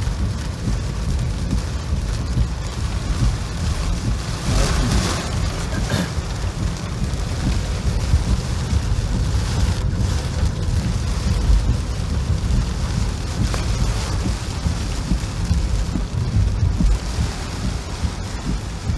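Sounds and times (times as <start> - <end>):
constant low rumble: 0.0 - 18.9
heavy rain: 0.0 - 18.9
wind: 0.0 - 18.9.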